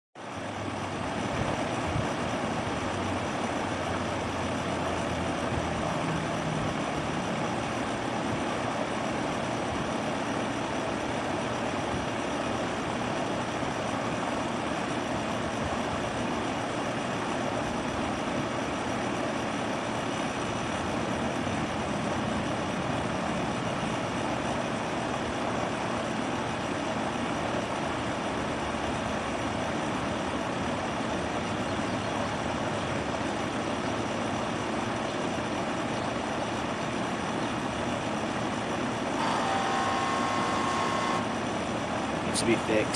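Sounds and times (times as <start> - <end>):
heat pump fan and compressor rush: 0.2 - 42.9
low buzzing hum: 0.3 - 42.9.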